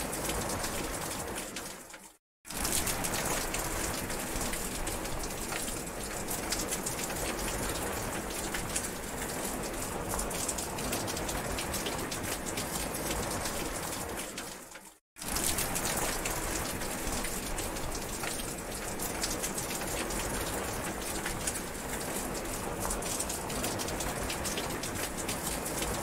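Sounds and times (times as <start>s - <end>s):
raindrops ticking: 1.6s - 13.6s, 14.3s - 26.0s
steady rain hiss: 2.6s - 14.5s, 15.3s - 26.0s.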